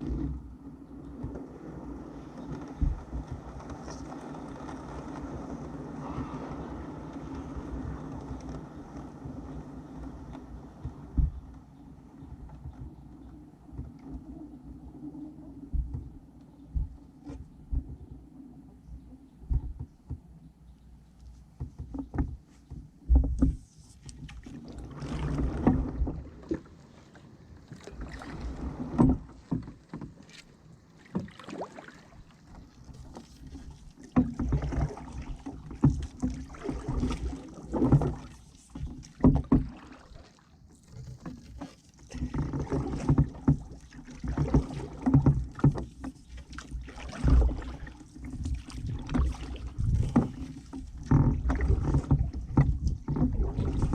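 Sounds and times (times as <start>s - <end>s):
paddle swishing and splashing: 0.0s - 18.3s, 21.3s - 53.9s.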